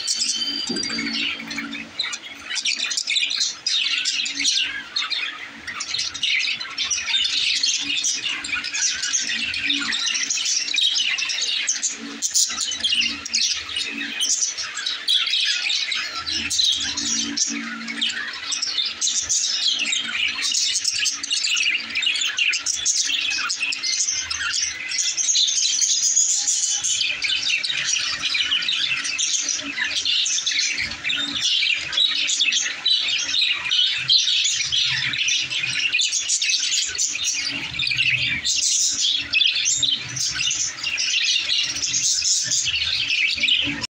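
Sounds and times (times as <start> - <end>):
budgerigars chattering and chirping: 0.0 - 43.9.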